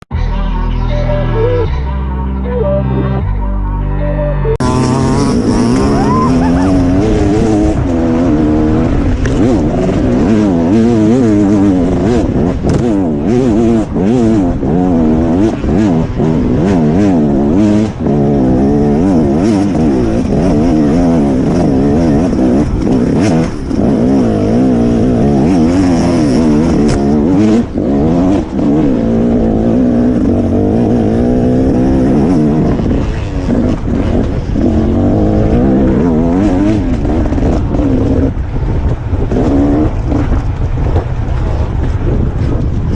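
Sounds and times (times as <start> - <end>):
dirt bike engines revving: 4.6 - 42.9.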